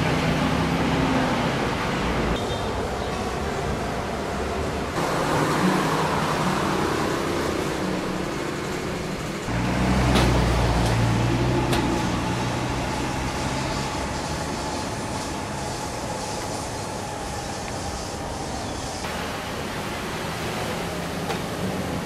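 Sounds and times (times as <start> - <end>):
heavy engine rumble: 0.0 - 22.0
road traffic: 0.0 - 22.0.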